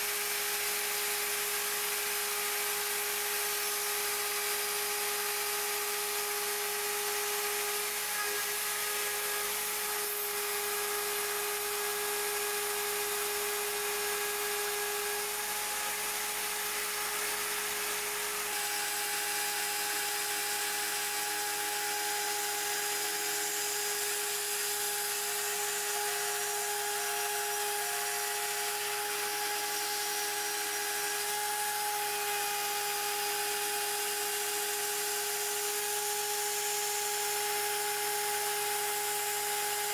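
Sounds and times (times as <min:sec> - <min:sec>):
hiss of cutting metal: 0:00.0 - 0:39.9.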